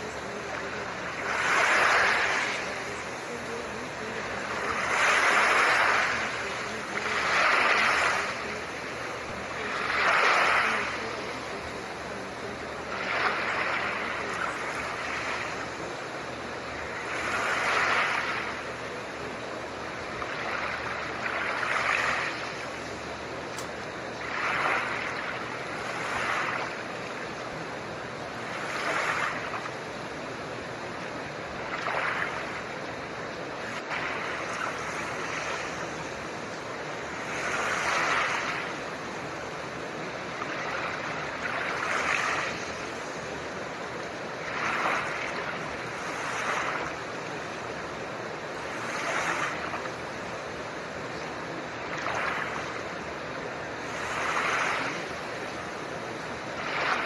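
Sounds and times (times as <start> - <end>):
ocean waves washing in: 0.0 - 57.0.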